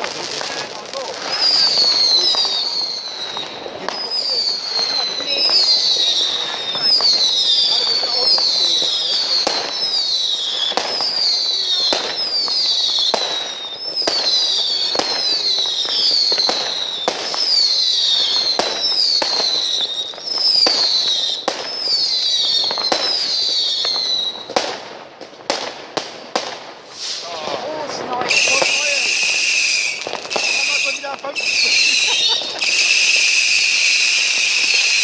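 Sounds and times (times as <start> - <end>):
fireworks bangs: 0.0 - 35.0
fireworks whistling: 0.0 - 35.0.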